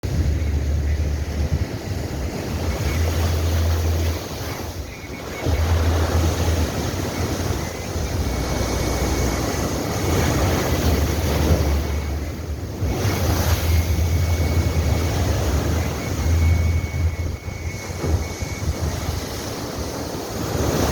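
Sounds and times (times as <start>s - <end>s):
ocean surf breaking: 0.0s - 20.9s
wind rumble on microphone: 0.0s - 20.9s.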